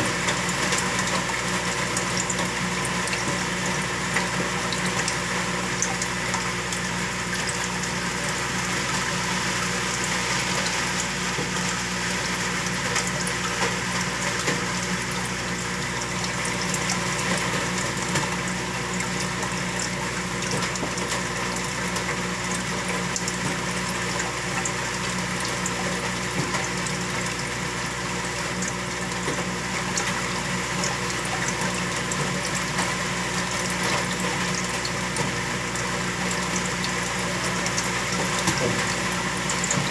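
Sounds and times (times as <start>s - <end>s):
aquarium pump motor hum: 0.0s - 39.9s
moving water: 0.0s - 39.9s.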